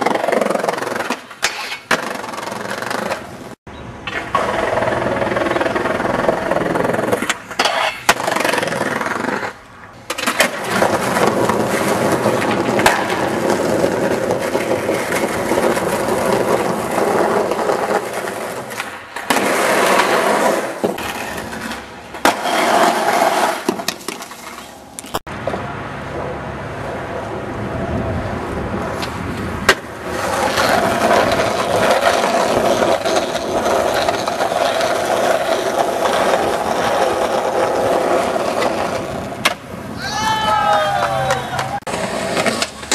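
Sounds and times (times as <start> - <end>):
skateboard clacks: 0.0 - 3.4, 4.0 - 26.2, 29.0 - 39.7, 40.6 - 42.9
skateboard wheels rolling on concrete: 0.0 - 42.9.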